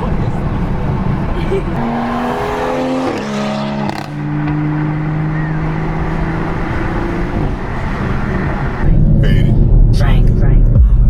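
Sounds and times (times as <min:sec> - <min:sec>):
car engine changing gear: 0:00.0 - 0:10.2.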